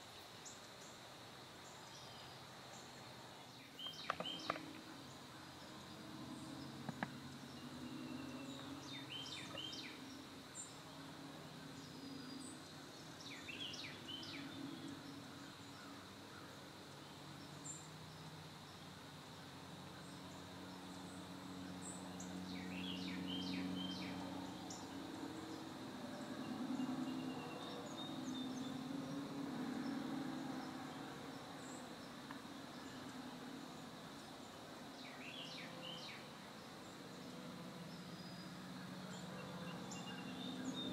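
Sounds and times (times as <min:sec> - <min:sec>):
high insect drone: 0:00.0 - 0:40.9
songbird chirping: 0:00.0 - 0:40.9
low distant hum: 0:01.6 - 0:40.9.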